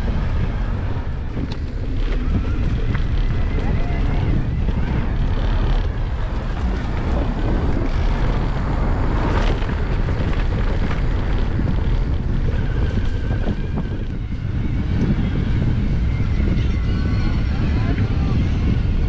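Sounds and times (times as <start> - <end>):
bike rattles and knocks: 0.0 - 17.2
electric bike rumble: 0.0 - 19.0
wind buffeting microphone: 0.0 - 19.0.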